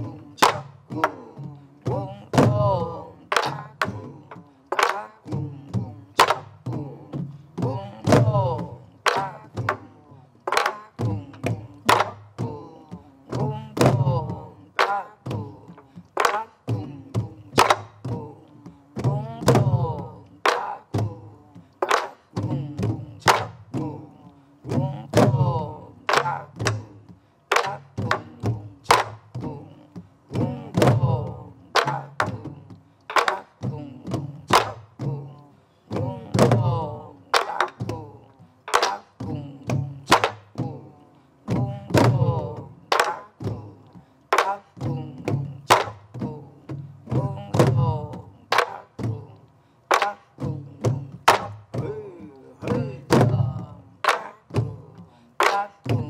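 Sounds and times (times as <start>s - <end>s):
barrel drums beating in unison: 0.0s - 56.0s.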